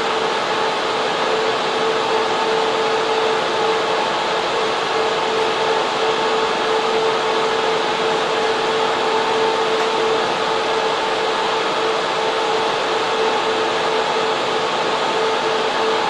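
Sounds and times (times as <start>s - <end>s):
constant hum: 0.0s - 16.0s
rush of cooling fan air: 0.0s - 16.0s.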